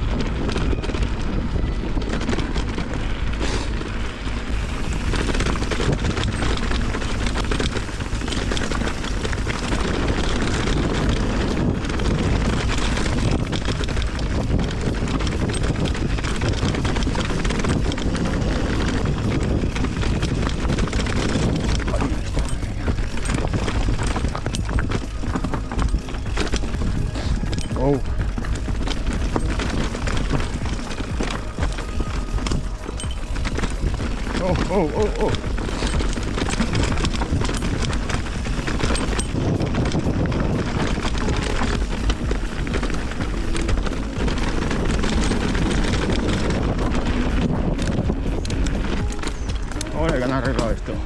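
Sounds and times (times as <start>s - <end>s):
bicycle rattling on rough track: 0.0s - 51.0s
wind buffeting microphone: 0.0s - 51.0s.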